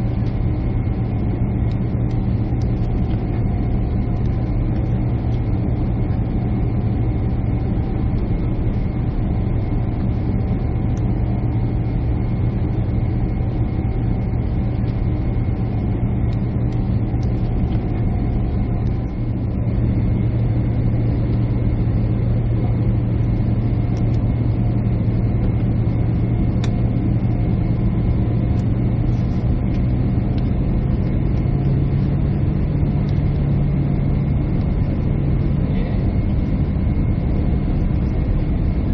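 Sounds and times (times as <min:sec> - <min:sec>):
jet cabin engine hum: 0:00.0 - 0:38.9.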